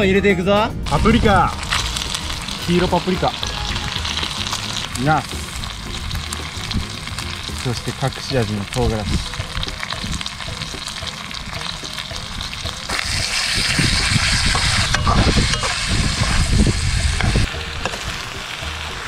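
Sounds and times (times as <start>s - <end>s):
food sizzling in a wok: 0.8s - 19.0s.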